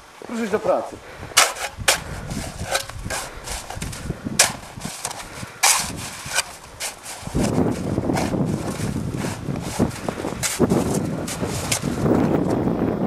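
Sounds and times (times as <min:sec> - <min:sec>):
hand tool scraping icy snow: 0:00.4 - 0:12.3.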